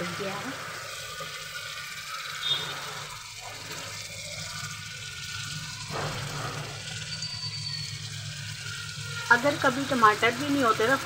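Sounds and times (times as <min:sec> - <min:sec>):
food sizzling in pan: 0:00.0 - 0:11.0.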